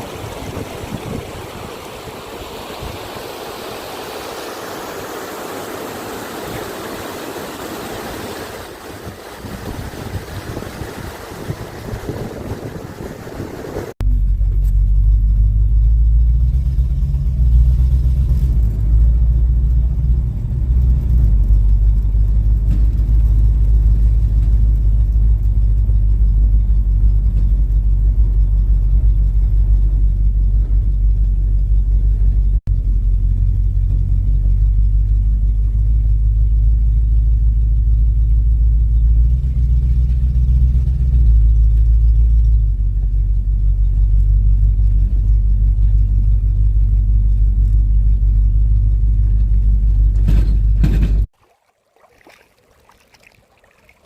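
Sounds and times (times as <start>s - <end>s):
truck engine rumbling: 0.0s - 51.3s.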